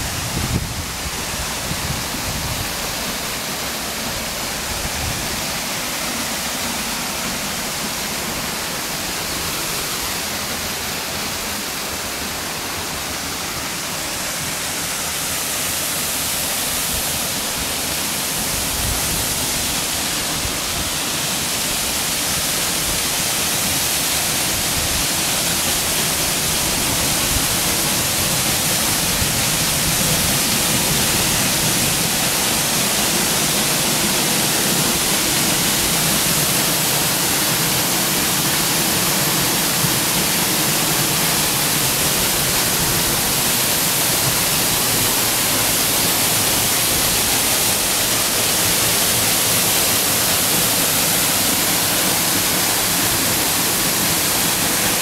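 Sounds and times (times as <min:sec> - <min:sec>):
mountain stream and waterfall rushing: 0:00.0 - 0:55.0.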